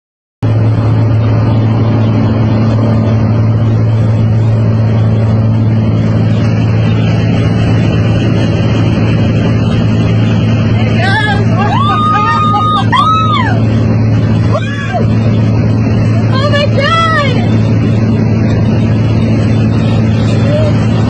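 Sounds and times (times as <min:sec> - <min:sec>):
aircraft engine drone: 0:00.4 - 0:21.0.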